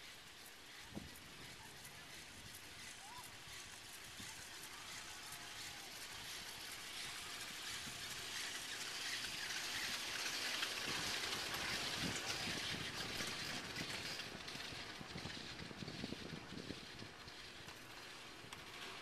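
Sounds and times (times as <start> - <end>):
wind rushing around chairlift: 0.0 - 19.0.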